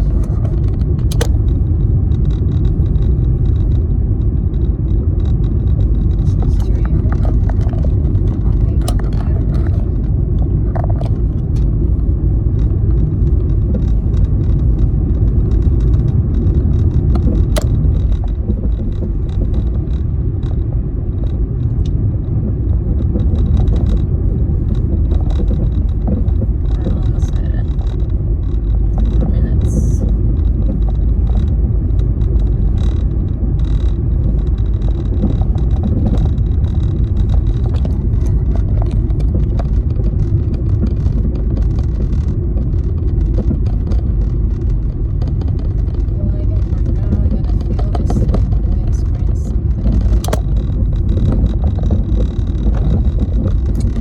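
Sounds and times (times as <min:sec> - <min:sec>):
car road and engine rumble: 0:00.0 - 0:54.0
small clicks and rattles: 0:00.0 - 0:54.0.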